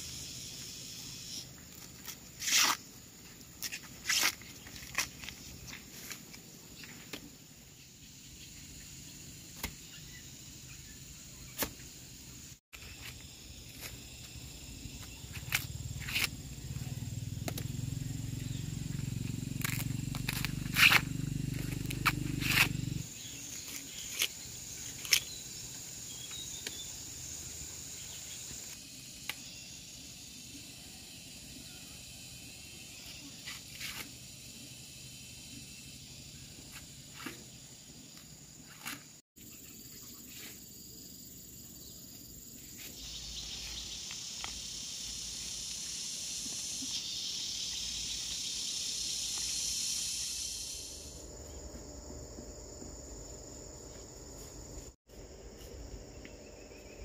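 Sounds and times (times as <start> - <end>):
buzzy insect chorus: 0.0 - 57.0
insect chorus shrilling: 0.0 - 57.0.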